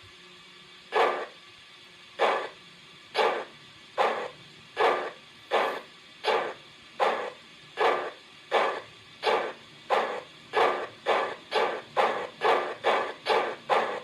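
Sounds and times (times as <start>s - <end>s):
model steam locomotive chuffs: 0.0s - 14.0s.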